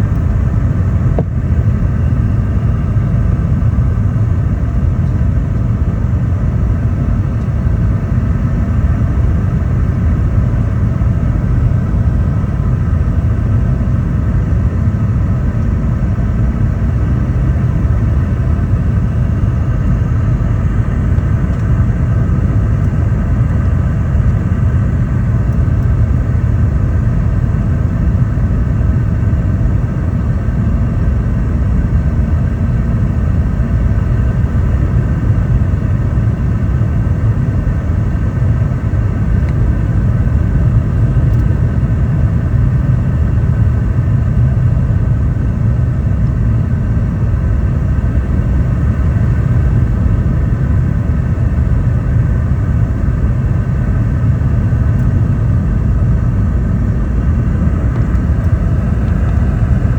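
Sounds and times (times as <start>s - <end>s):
airliner cabin rumble: 0.0s - 59.9s
jet engine hum: 0.0s - 59.9s.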